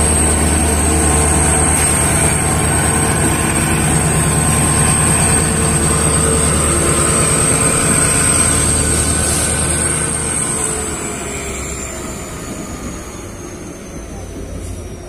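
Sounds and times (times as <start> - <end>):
diesel locomotive engine throbbing: 0.0 - 15.0.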